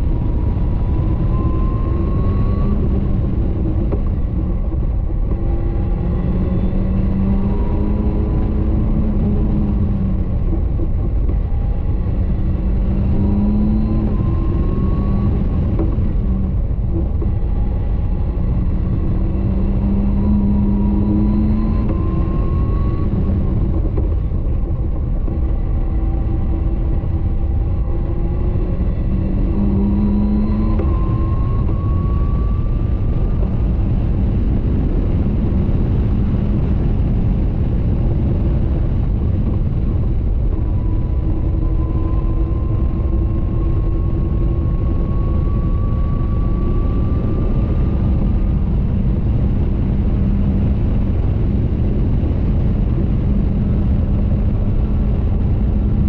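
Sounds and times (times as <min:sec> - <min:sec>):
car engine pulling hard: 0:00.0 - 0:56.0
wind rush: 0:00.0 - 0:56.0.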